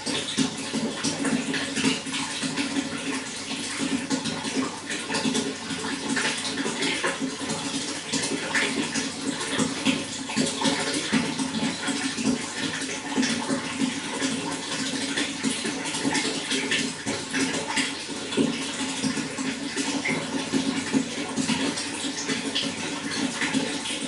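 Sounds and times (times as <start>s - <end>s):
running water splashing: 0.0s - 24.0s.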